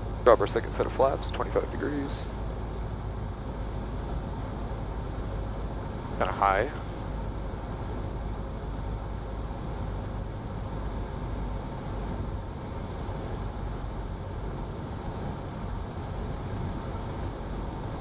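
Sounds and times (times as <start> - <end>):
airflow rush: 0.0 - 18.0
faint steady hum: 0.0 - 18.0
propeller plane engine: 0.0 - 18.0.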